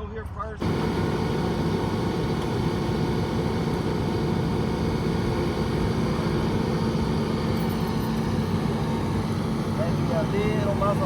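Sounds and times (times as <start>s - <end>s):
engine humming steadily: 0.4s - 11.0s.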